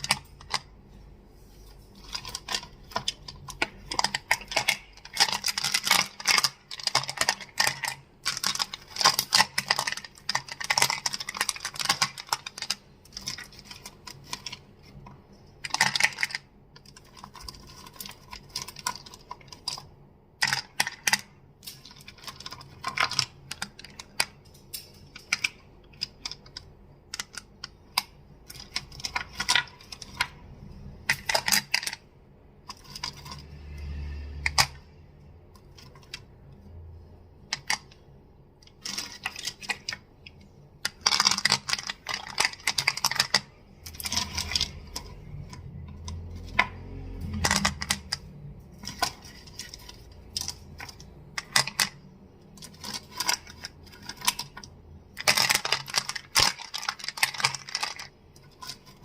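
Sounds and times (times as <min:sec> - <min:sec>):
crystals tapping and clicking: 0:01.9 - 0:59.0.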